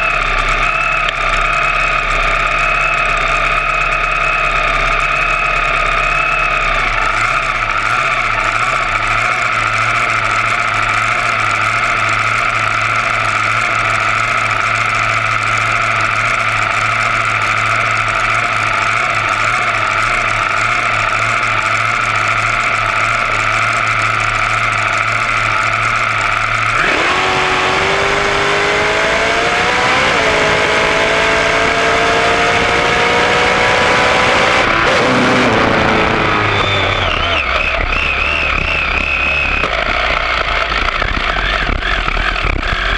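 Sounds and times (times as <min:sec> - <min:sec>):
dragster engine: 0:00.0 - 0:42.9.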